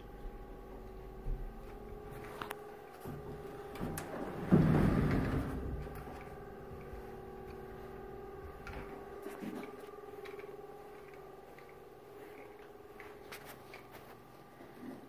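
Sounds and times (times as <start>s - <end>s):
faint steady hum: 0.0s - 15.0s
closet door brushing rumble: 0.2s - 15.0s.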